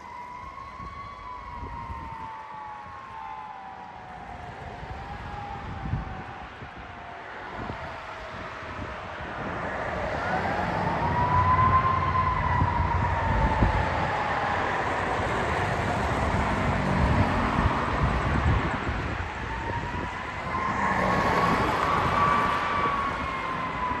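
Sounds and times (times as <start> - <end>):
fire truck siren wailing: 0.0 - 24.0
road traffic: 0.0 - 24.0.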